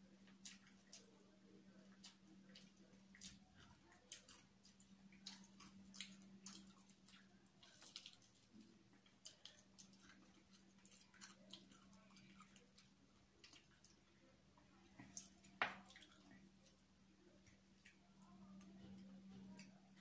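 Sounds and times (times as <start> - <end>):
chewing fried chicken: 0.0 - 20.0.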